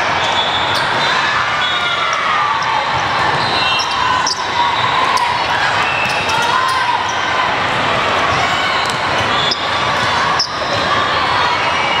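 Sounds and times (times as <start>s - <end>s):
voices in large hall: 0.0s - 12.0s.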